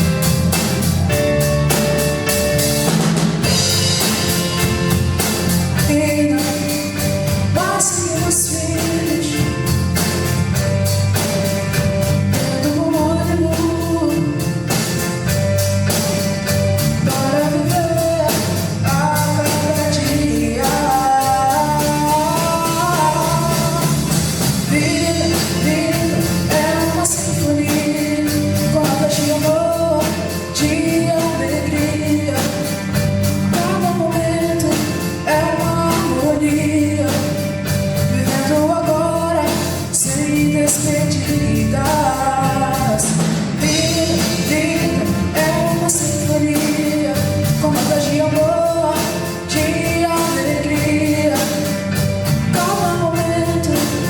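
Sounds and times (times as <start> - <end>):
pop-rock band playing: 0.0 - 54.0
woman singing: 5.6 - 10.0, 12.0 - 15.4, 17.0 - 54.0.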